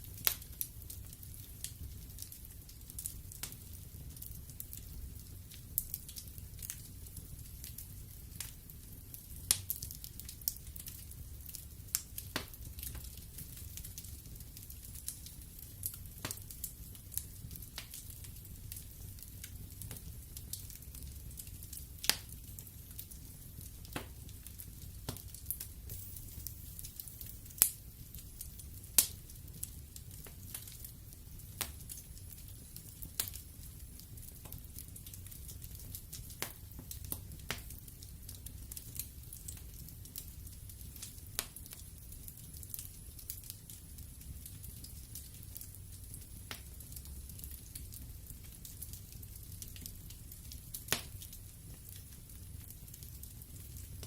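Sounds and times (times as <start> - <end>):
fire flames rumbling: 0.0 - 54.0
logs crackling and popping: 0.1 - 54.0.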